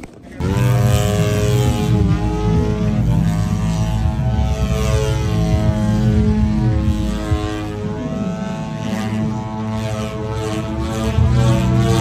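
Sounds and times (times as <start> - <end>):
model aircraft engine: 0.0 - 12.0.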